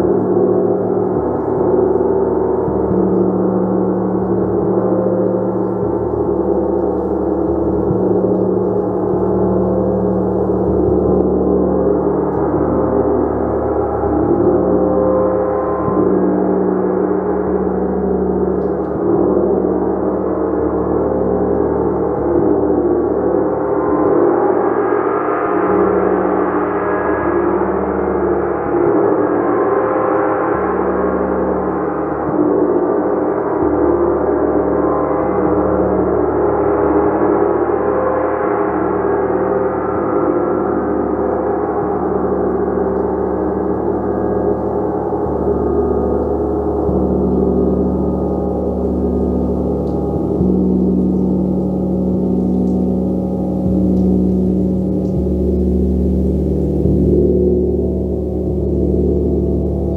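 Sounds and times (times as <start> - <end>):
shimmering gong: 0.0 - 59.9.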